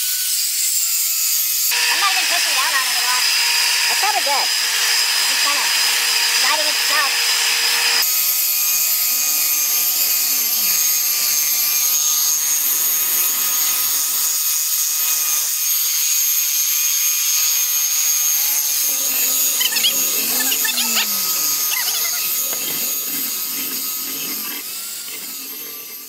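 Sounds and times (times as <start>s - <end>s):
belt sander whining: 1.0s - 26.0s.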